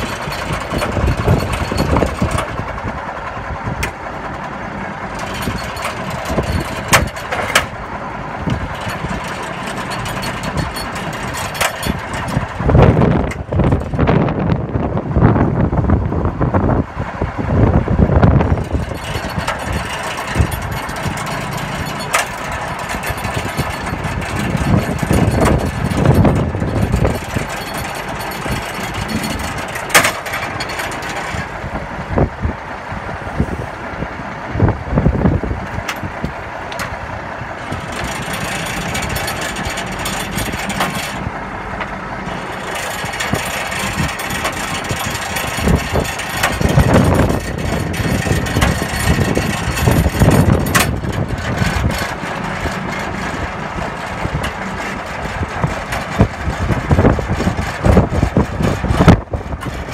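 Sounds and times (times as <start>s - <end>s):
heavy truck engines running: 0.0s - 59.9s.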